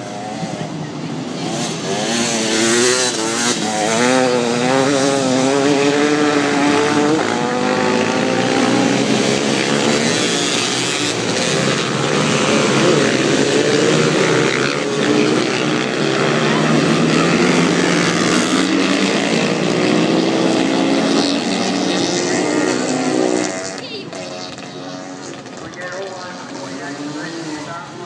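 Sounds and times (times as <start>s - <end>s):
dirt bike engines racing: 0.0s - 28.0s
dirt bike revving: 0.0s - 28.0s.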